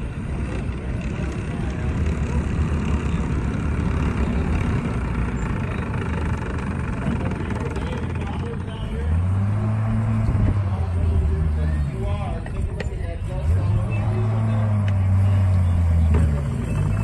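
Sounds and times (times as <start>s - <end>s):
engine running under load: 0.0s - 17.0s
rumble of vehicle tracks: 0.0s - 17.0s.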